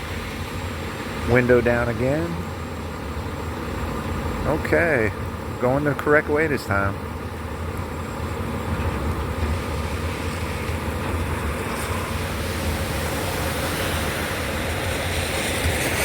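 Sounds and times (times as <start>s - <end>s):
road noise: 0.0s - 16.0s
vehicle engines rumbling: 0.0s - 16.0s.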